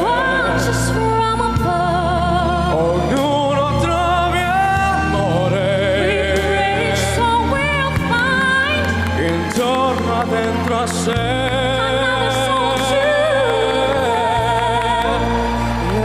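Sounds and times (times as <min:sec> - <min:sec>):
person singing slow song: 0:00.0 - 0:16.0.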